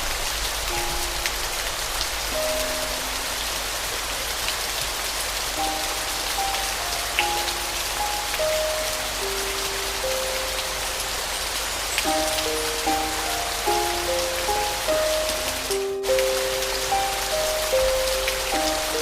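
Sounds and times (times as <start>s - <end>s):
slow piano melody: 0.0s - 19.0s
steady rain falling: 0.0s - 19.0s.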